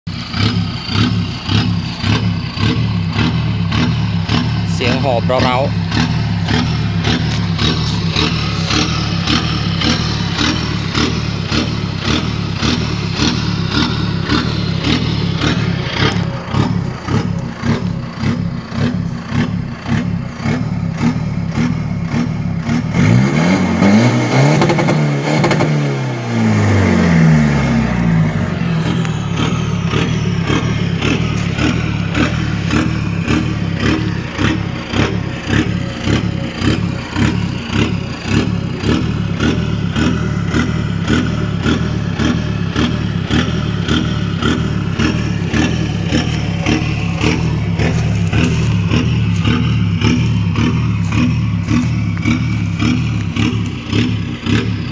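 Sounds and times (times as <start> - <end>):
engine surging at idle: 0.1 - 54.9.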